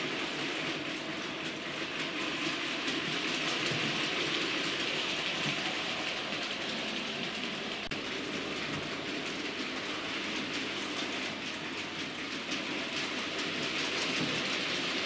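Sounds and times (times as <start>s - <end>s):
model train wheels rattling: 1.1s - 15.0s.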